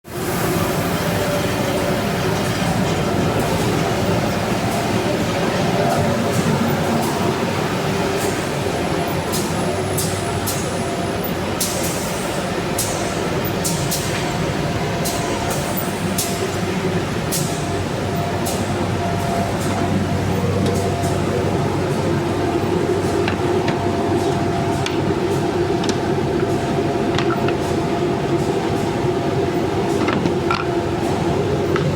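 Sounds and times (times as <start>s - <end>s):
machine drone and hum: 0.0s - 31.9s.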